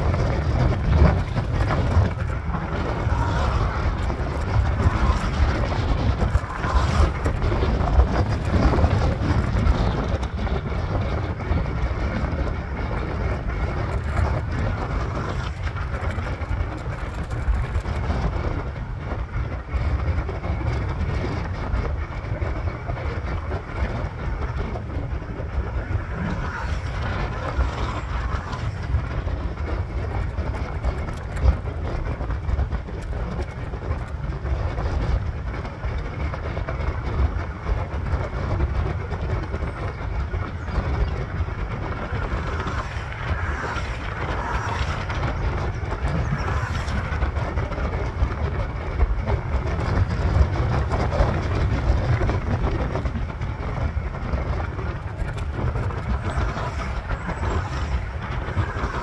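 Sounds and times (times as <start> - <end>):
scooter wheels rumbling on asphalt: 0.0 - 59.0.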